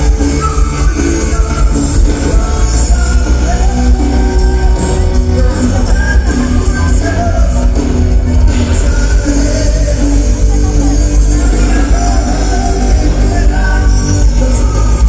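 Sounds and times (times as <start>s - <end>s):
live band music with heavy bass: 0.0s - 15.0s
person singing: 0.0s - 15.0s.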